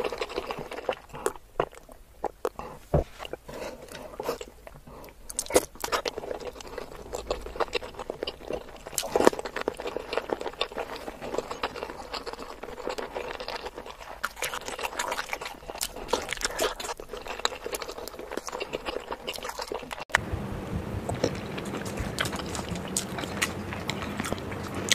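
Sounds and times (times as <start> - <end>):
close-miked chewing: 0.0 - 20.2, 21.0 - 24.9.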